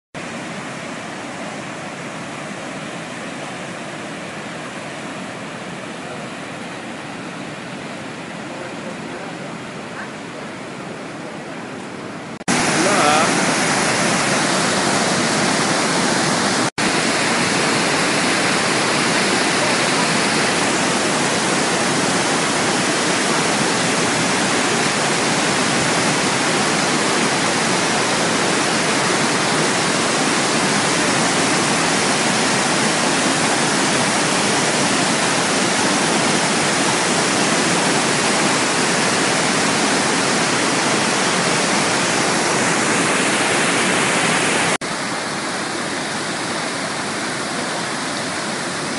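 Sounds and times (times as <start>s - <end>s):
waterfall roaring: 0.2s - 48.9s.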